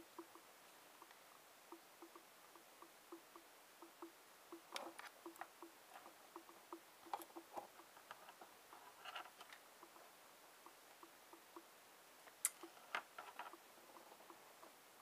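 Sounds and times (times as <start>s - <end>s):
faint steady ticking: 0.0s - 15.0s.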